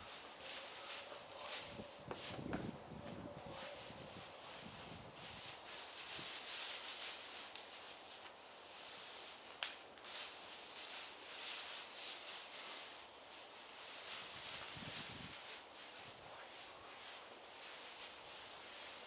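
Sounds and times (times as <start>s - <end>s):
rustling in straw bedding: 0.0s - 19.0s.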